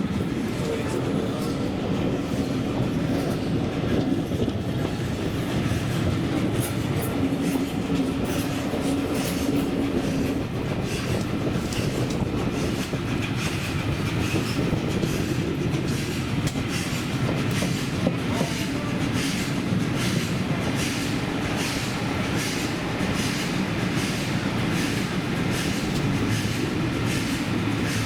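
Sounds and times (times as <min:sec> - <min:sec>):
train rumbling along track: 0:00.0 - 0:28.0
wheels clicking over rail joints: 0:00.0 - 0:28.0.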